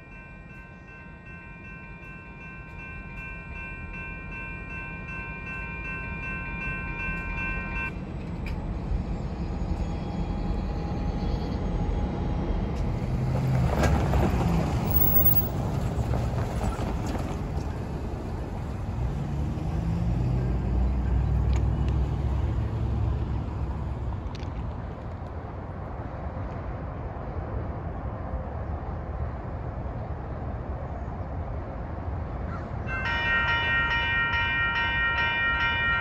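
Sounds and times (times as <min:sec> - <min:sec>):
vehicles passing close by: 0:00.0 - 0:36.0.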